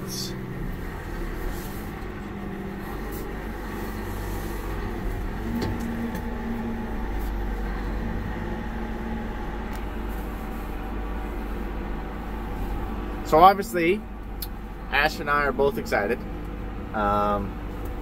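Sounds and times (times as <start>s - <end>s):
tractor engine hum from cab: 0.0s - 18.0s.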